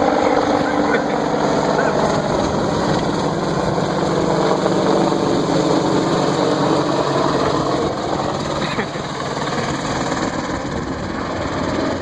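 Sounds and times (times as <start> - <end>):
helicopter rotor and engines: 0.0 - 12.0.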